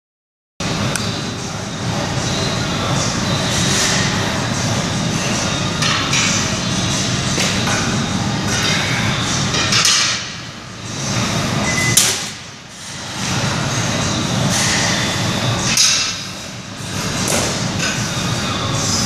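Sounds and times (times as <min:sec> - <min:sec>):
gym background noise: 0:00.6 - 0:19.0.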